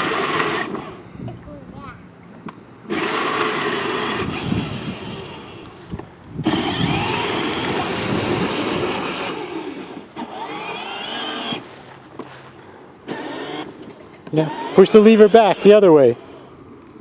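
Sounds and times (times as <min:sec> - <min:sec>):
toy car electric motor whining: 0:00.0 - 0:01.1, 0:02.8 - 0:16.8.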